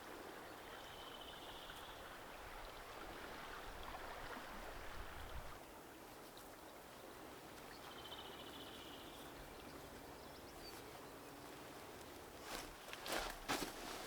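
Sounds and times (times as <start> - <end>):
stream running water: 0.0 - 14.0.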